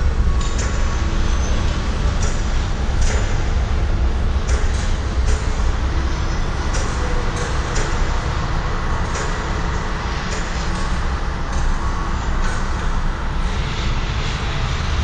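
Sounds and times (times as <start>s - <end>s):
rail car rumbling on track: 0.0s - 15.0s.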